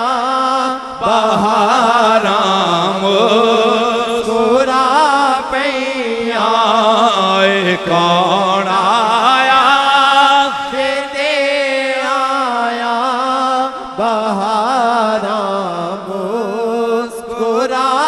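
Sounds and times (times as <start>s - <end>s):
man singing through microphone: 0.0s - 18.0s.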